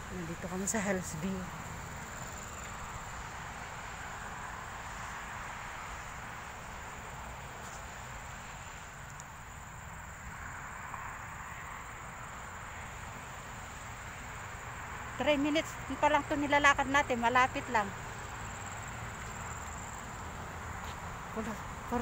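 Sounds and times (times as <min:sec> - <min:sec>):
high insect whine: 0:00.0 - 0:22.0.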